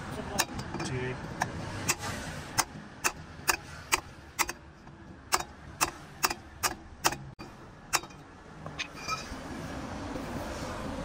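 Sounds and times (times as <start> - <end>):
hammer striking metal: 0.4 - 9.4.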